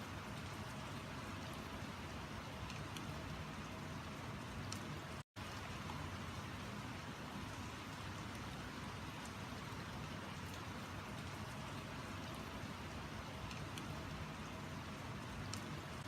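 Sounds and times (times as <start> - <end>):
steady rain hissing: 0.0 - 16.0.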